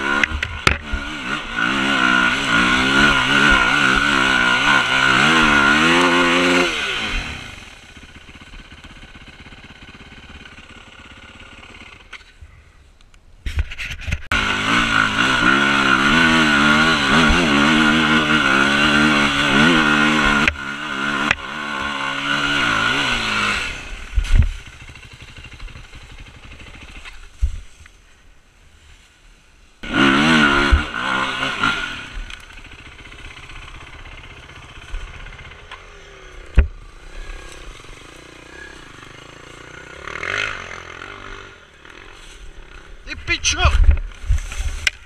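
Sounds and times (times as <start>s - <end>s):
motorcycle engine revving: 0.0s - 12.4s, 14.0s - 27.8s, 29.8s - 45.0s.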